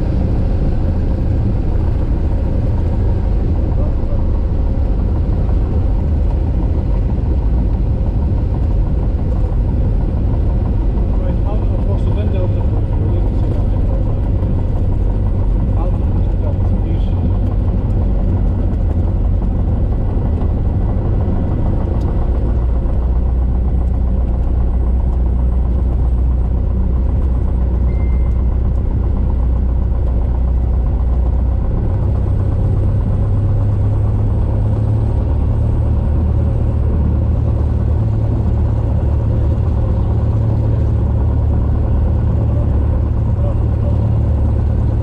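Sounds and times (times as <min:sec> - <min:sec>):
airplane engine drone: 0:00.0 - 0:45.0.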